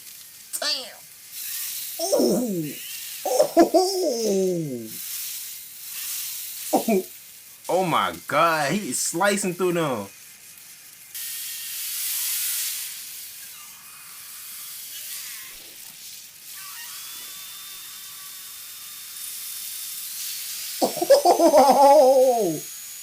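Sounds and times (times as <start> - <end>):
hiss: 0.0 - 0.5, 1.1 - 7.7, 9.7 - 23.0.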